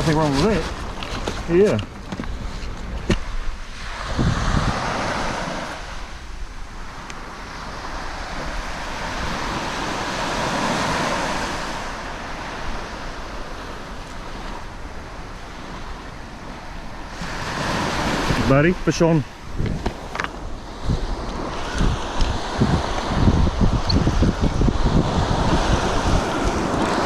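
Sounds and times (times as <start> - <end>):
sea waves washing against shore: 0.0 - 27.0
wind rumbling on microphone: 0.0 - 27.0.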